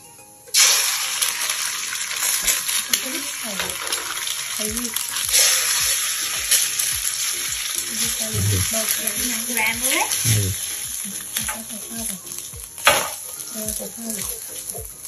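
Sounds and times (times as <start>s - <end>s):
egg sizzling in hot oil: 0.5s - 15.0s.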